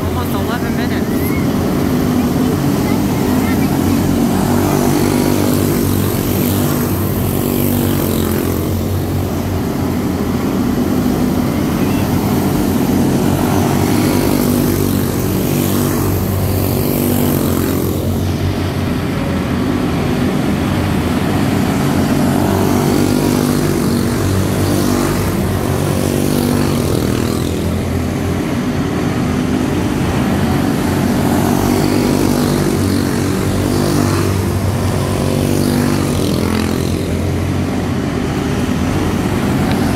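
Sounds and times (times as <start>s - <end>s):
small race car engines buzzing: 0.0s - 39.9s.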